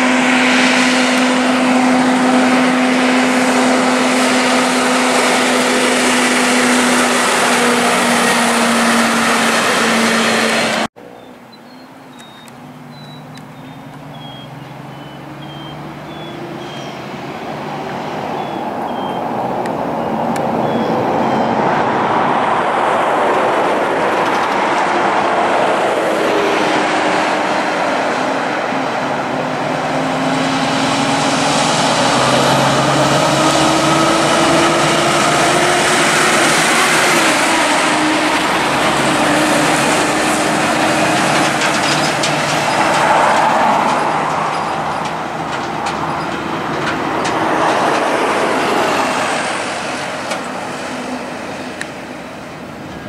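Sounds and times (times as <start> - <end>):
heavy truck diesel engine: 0.0 - 53.0
truck tyres rolling: 0.0 - 53.0.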